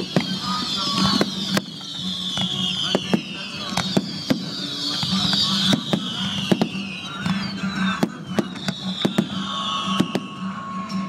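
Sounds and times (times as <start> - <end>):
fireworks bangs: 0.0 - 10.7
high falling whistle: 0.0 - 11.0.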